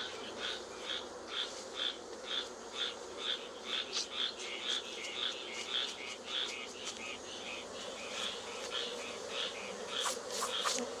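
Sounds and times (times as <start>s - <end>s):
honeybees humming: 0.0s - 11.0s.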